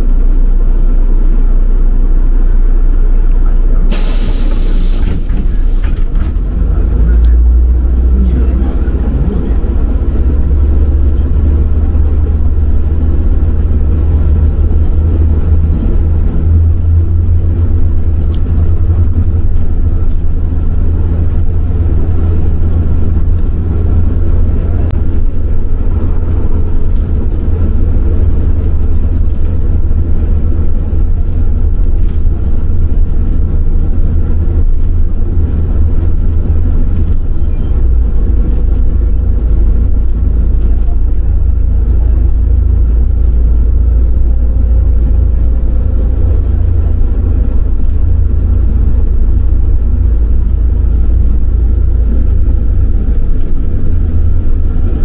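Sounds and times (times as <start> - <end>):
bus engine drone: 0.0 - 55.0
road and tyre noise: 0.0 - 55.0.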